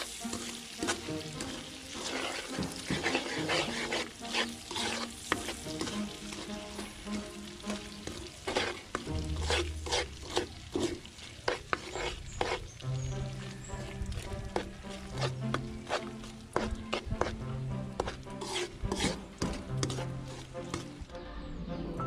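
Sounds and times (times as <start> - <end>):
metal spoon scraping wok: 0.0 - 12.8, 13.8 - 21.0
caramel bubbling and sizzling: 0.0 - 21.1.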